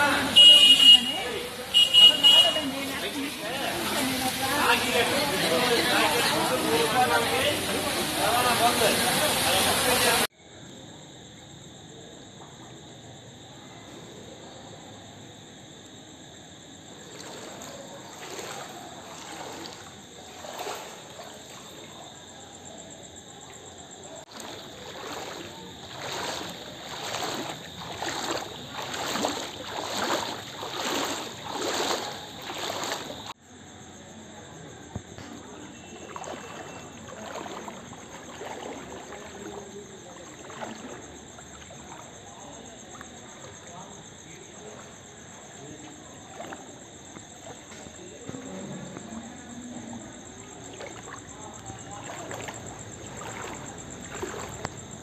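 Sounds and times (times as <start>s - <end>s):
wading through shallow water: 0.0s - 10.3s, 16.0s - 33.4s, 34.3s - 55.0s.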